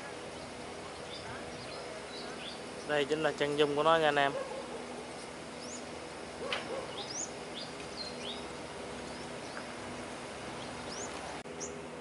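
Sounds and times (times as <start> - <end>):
birds chirping: 0.0 - 12.0
faint background hum: 0.0 - 12.0.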